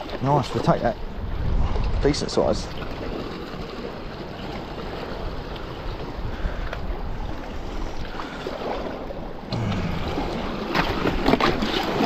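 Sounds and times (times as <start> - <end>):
sea waves washing against rocks: 0.0 - 12.0
wind rumbling on microphone: 0.6 - 12.0.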